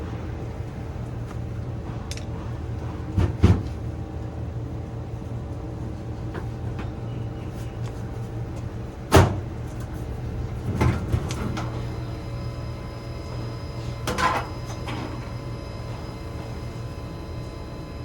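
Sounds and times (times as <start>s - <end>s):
air conditioner unit humming: 0.0s - 18.0s.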